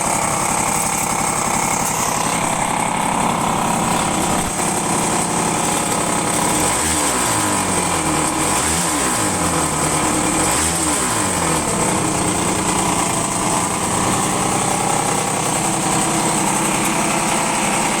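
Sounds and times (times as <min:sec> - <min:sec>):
scooter engine revving and idling: 0:00.0 - 0:18.0.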